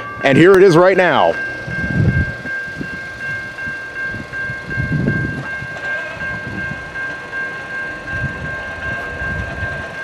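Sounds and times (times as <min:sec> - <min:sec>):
freight train rumbling: 0:00.0 - 0:10.0
level crossing bell ringing: 0:00.0 - 0:10.0.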